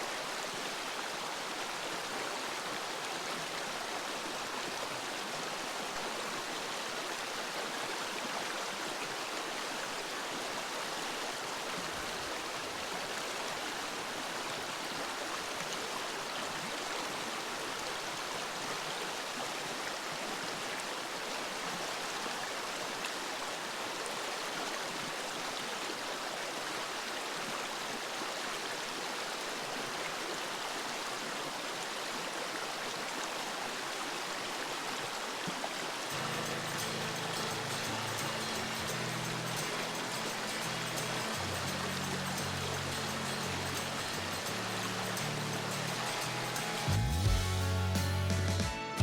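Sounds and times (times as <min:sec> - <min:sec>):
running water rushing: 0:00.0 - 0:47.3.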